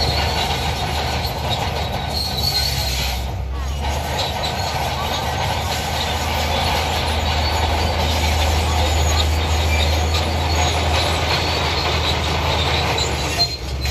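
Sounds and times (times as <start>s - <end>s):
diesel engine under load: 0.0s - 13.9s.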